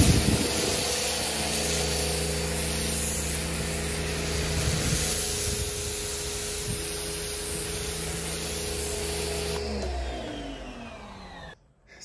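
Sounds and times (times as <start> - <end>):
spray jet hitting concrete: 0.0 - 9.9
pressure washer motor hum: 0.0 - 11.6.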